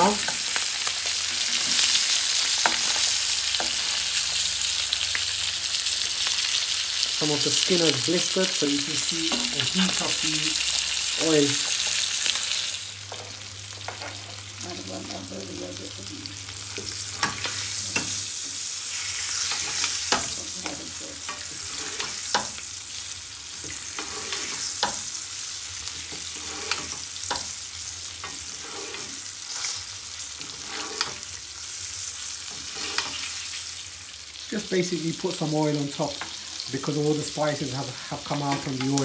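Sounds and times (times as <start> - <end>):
fish sizzling in oil: 0.0 - 39.0.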